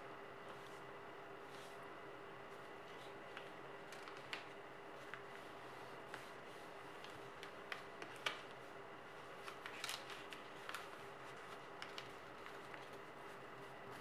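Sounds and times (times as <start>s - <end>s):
faint steady hum: 0.0s - 14.0s
paper folding and crinkling: 2.5s - 14.0s.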